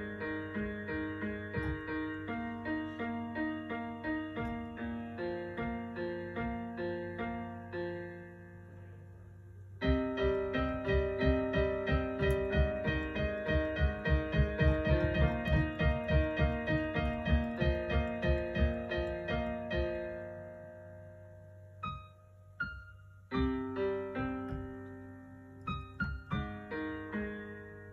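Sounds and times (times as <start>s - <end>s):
piano melody: 0.0s - 27.9s.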